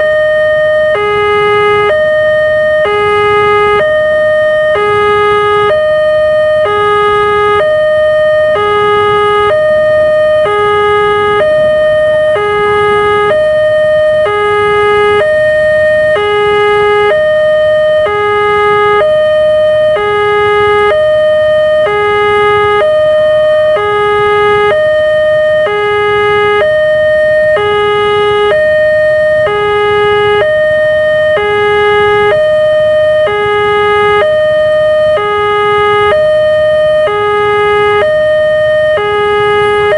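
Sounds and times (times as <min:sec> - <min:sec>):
level crossing alarm chime: 0:00.0 - 0:39.9.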